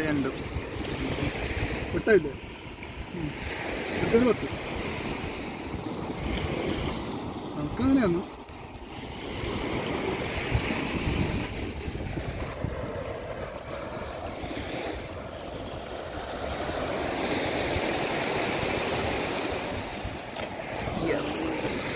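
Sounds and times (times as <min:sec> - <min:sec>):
surf washing onto beach: 0:00.0 - 0:21.9
wind buffeting microphone: 0:00.0 - 0:21.9.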